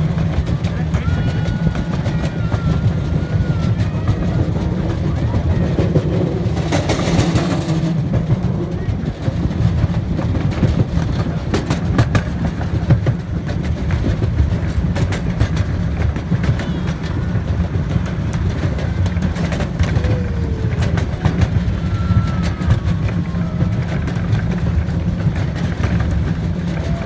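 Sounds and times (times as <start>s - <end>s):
train rumbling on track: 0.0s - 27.0s
wheels clicking over rail joints: 0.0s - 27.0s.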